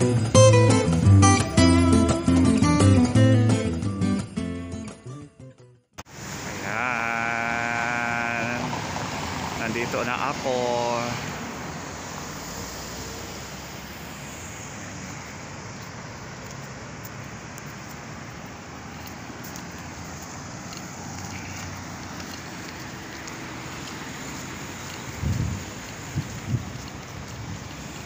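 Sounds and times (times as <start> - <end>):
road traffic hum: 0.0 - 5.0, 6.0 - 28.0.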